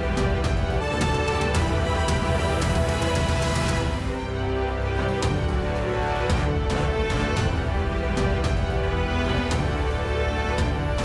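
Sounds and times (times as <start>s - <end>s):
news theme music: 0.0s - 11.0s.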